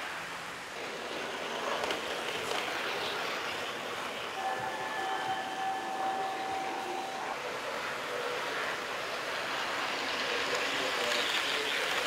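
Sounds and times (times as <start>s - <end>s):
model trains rolling on track: 0.0s - 12.0s.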